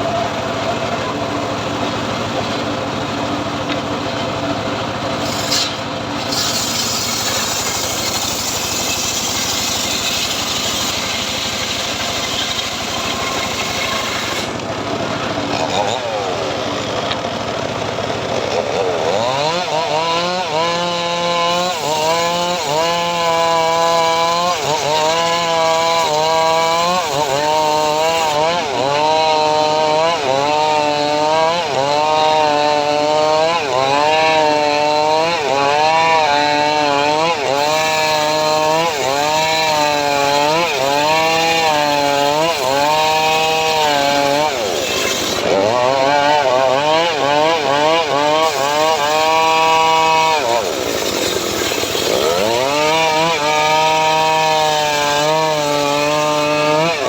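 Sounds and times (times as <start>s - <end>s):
saw engine cutting wood: 0.0s - 57.0s.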